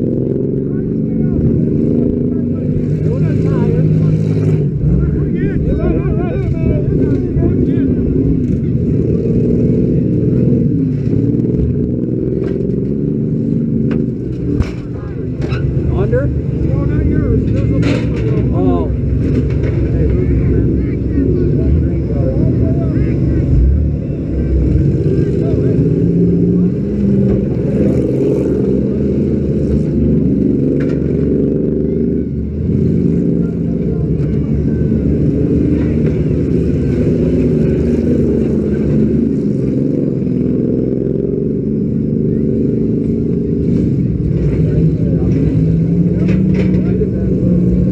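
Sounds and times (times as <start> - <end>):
car engine idling loudly: 0.0 - 47.9.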